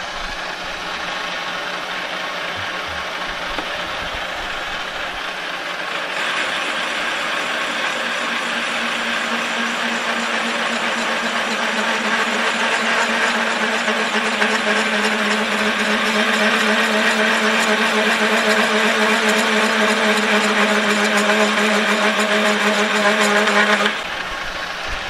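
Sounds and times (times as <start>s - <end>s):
cutting tool hissing: 0.0s - 25.0s
metal lathe humming: 0.0s - 25.0s.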